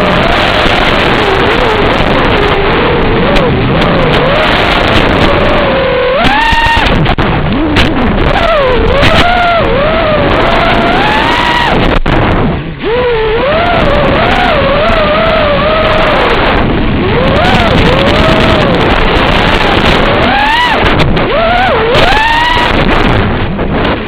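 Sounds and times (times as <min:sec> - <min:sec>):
drone motors whining: 0:00.0 - 0:24.0
wind noise on microphone: 0:00.0 - 0:24.0.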